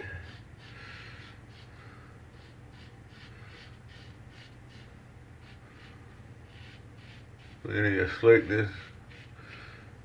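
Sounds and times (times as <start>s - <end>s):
razor scraping stubble: 0.0s - 9.4s
steady low hum: 0.0s - 10.0s.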